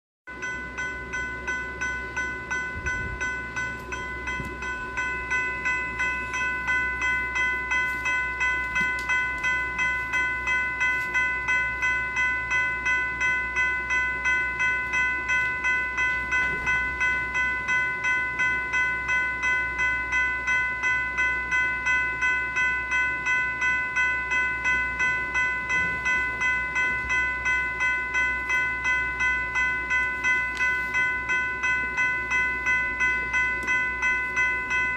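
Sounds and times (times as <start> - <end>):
electronic bell ringing: 0.3 - 34.9.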